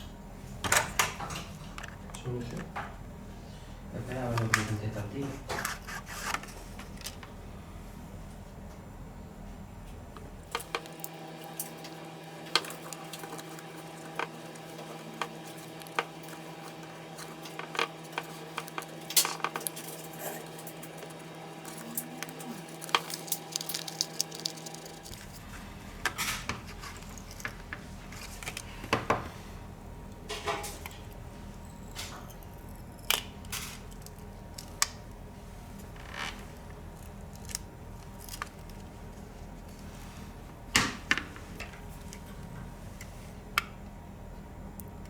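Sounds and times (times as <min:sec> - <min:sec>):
steady electrical hum: 0:00.0 - 0:45.0.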